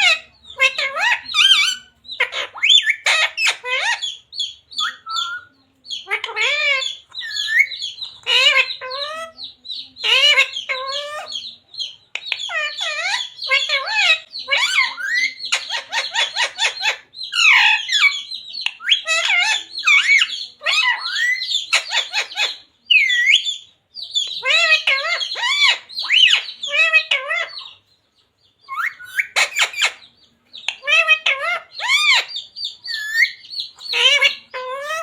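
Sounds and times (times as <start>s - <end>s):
parakeet chattering and squawking: 0.0s - 28.0s, 28.6s - 35.0s.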